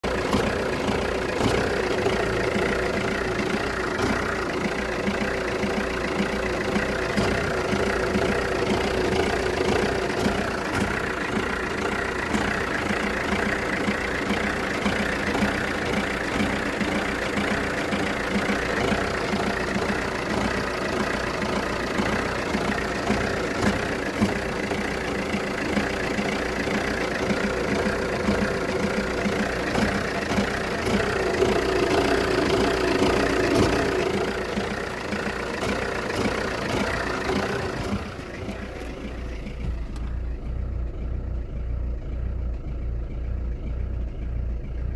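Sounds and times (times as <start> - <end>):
diesel engine idling unevenly: 0.0 - 44.9.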